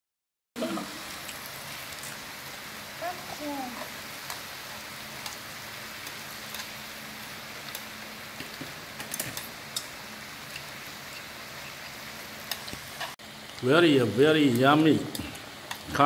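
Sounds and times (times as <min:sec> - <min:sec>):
meat sizzling on grill pan: 0:00.6 - 0:16.0.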